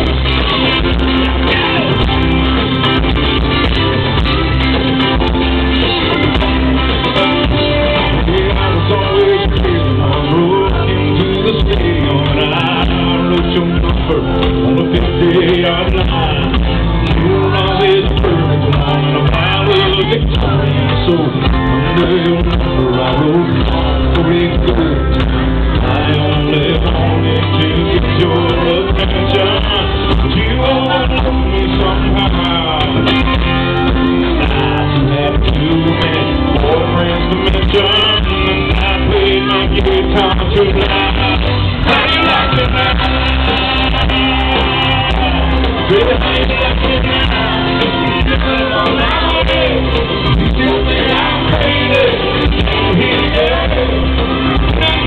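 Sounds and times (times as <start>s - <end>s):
country band playing live: 0.0s - 55.0s
lead singer singing: 0.0s - 55.0s.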